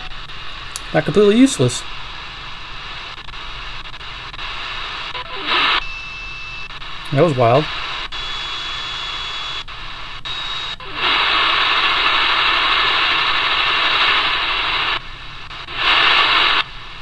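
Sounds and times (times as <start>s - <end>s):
radio crackles: 0.0s - 17.0s
radio static hiss: 0.0s - 17.0s.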